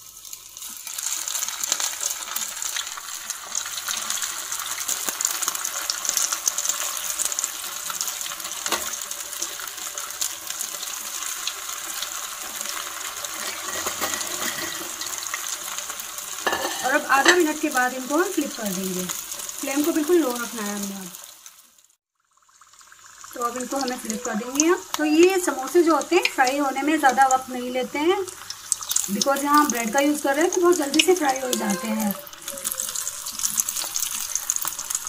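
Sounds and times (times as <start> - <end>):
food deep-frying in oil: 0.0 - 35.0.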